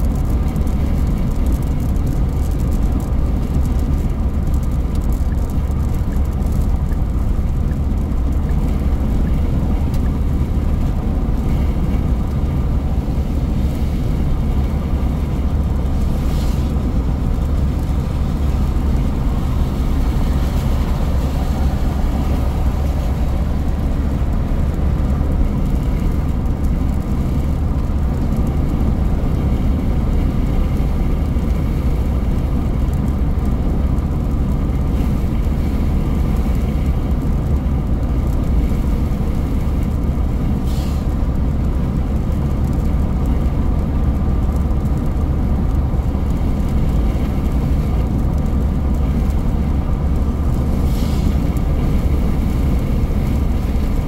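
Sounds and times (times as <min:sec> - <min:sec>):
car road noise on wet road: 0:00.0 - 0:54.0.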